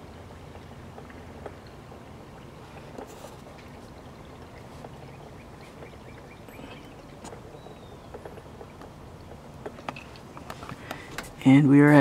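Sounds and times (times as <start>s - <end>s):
coolant gurgling through hose: 0.0s - 11.5s
steady low hum: 0.0s - 12.0s.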